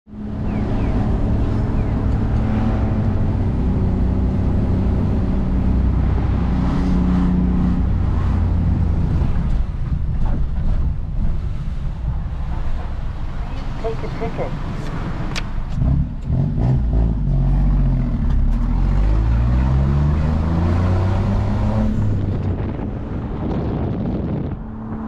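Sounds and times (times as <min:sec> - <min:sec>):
van engine: 0:00.1 - 0:24.8
road noise: 0:00.1 - 0:25.0.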